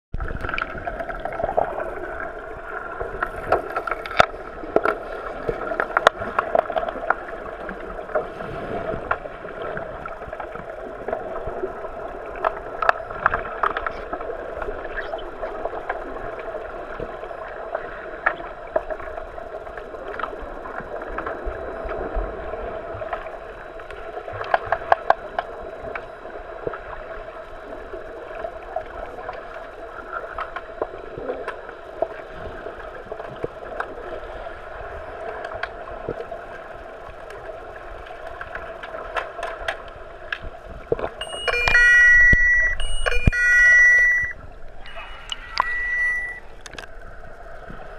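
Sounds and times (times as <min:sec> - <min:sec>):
sharp clicks and knocks underwater: 0:00.2 - 0:08.3, 0:08.9 - 0:22.3, 0:22.9 - 0:26.9, 0:28.3 - 0:32.2, 0:37.1 - 0:47.0
underwater water churning: 0:00.2 - 0:47.9.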